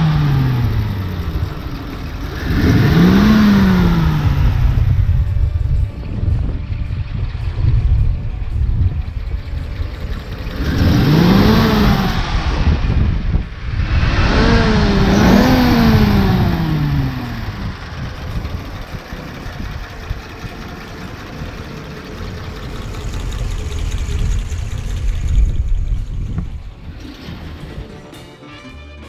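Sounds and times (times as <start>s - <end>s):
car engine revving and idling: 0.0s - 28.3s.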